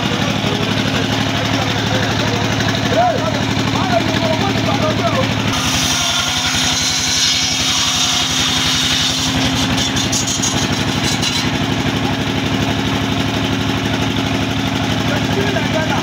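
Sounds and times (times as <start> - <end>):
saw engine chugging: 0.0 - 16.0.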